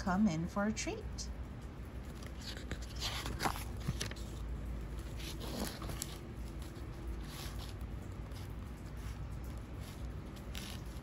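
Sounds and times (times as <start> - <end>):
steady low hum: 0.0 - 11.0
book pages rustling: 2.0 - 11.0.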